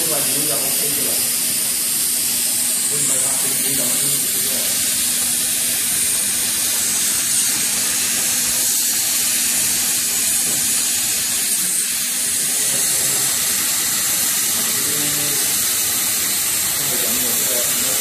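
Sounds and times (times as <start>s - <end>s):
hot air blower hissing: 0.0s - 18.0s.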